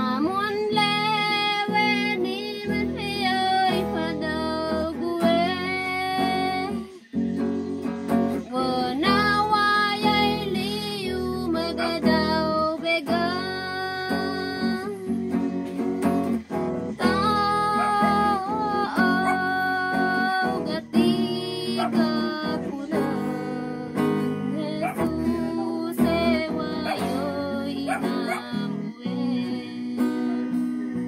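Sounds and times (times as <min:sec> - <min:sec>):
person singing: 0:00.0 - 0:07.5, 0:08.1 - 0:31.0
acoustic guitar strumming: 0:00.0 - 0:31.0.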